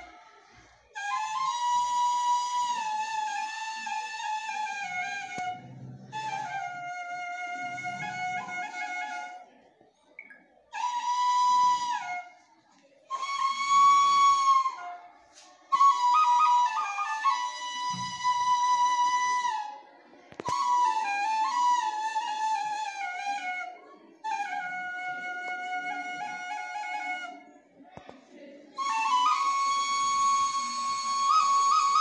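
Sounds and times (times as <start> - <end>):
flute playing slow melody: 1.0 - 9.4, 10.7 - 12.4, 13.1 - 15.1, 15.7 - 19.7, 20.5 - 27.4, 28.8 - 32.0.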